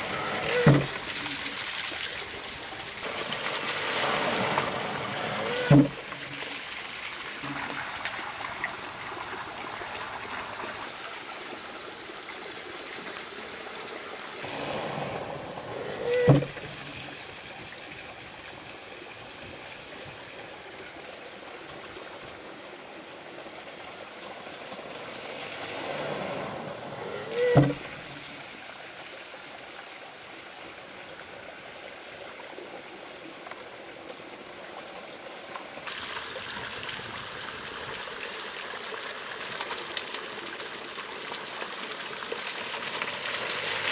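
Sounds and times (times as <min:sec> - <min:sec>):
water running from spout: 0:00.0 - 0:29.1, 0:33.7 - 0:43.9.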